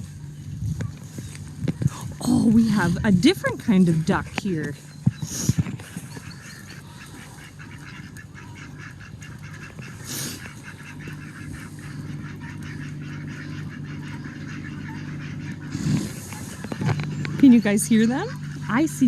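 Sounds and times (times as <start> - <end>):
ducks quacking: 0.0 - 19.0
steady low hum: 0.0 - 19.0.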